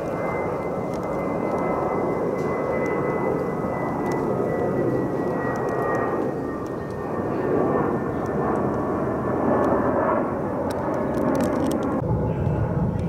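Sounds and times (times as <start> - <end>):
jet airliner roar: 0.0 - 13.0
thin high whine: 0.0 - 13.0.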